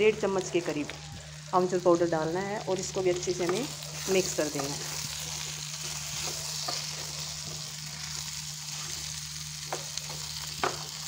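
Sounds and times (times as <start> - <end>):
steady low hum: 0.0 - 11.0
vegetables sizzling in a frying pan: 0.0 - 11.0.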